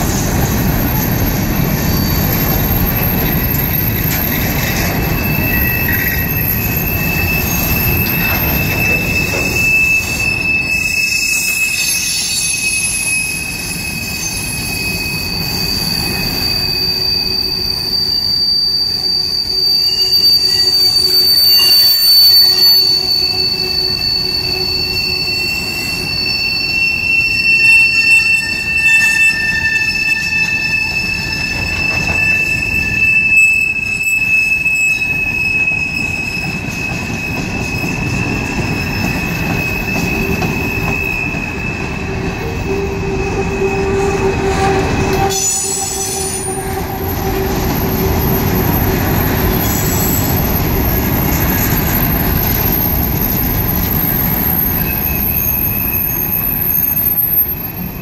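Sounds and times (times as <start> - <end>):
high-pitched wheel squeal: 0.0 - 58.0
train wheels rumbling on rails: 0.0 - 58.0.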